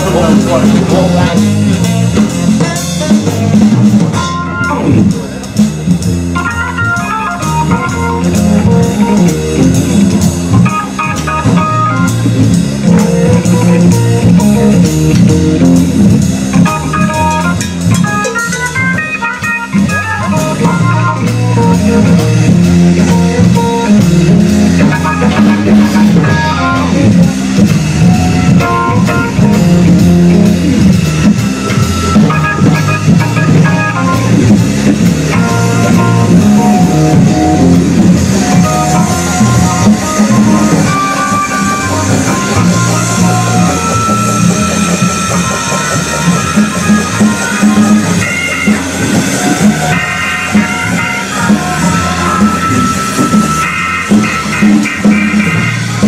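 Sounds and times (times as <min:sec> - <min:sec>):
bass guitar: 0:00.0 - 0:56.0
drum kit beat: 0:00.0 - 0:56.0
electric guitar: 0:00.0 - 0:56.0
keyboard organ sound: 0:00.0 - 0:56.0.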